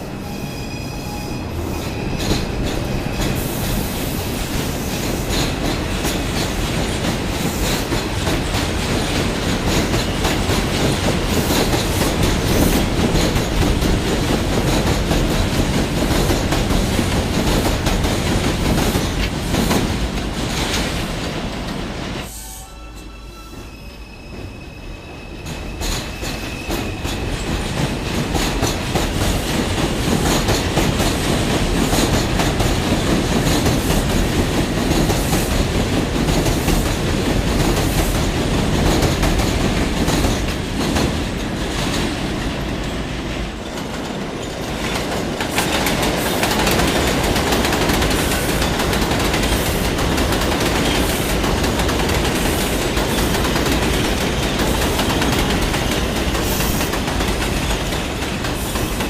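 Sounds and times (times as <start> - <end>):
subway train wheels clattering: 0.0 - 59.0.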